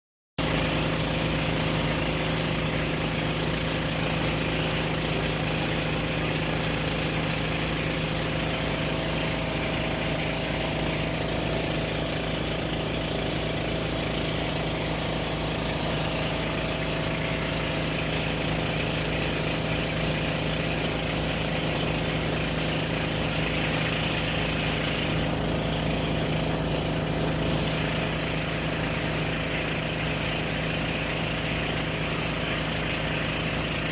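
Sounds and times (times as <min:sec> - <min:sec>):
boat engine running: 0:00.4 - 0:33.9.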